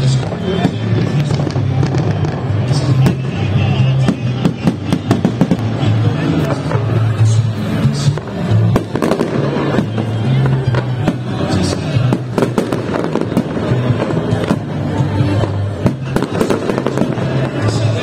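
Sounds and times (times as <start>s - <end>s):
firework crackling: 0.0s - 18.0s.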